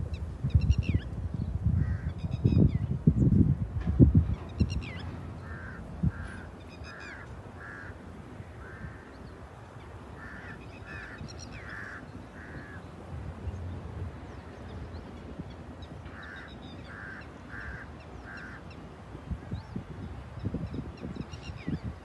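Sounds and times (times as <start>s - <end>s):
birds calling: 4.3s - 22.0s.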